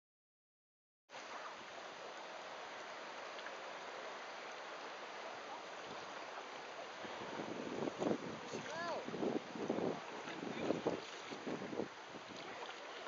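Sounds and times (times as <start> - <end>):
rushing sea water: 1.1 - 13.0.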